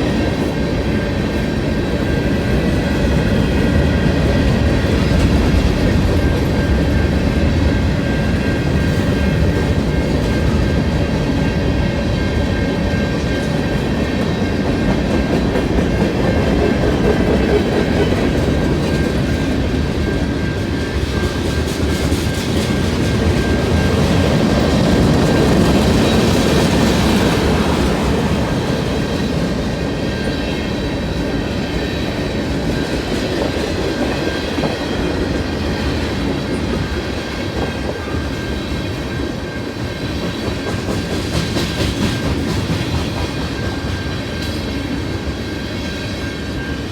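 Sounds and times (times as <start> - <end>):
freight train wheels clicking: 0.0 - 46.9
high wheel-on-rail tones: 0.0 - 46.9.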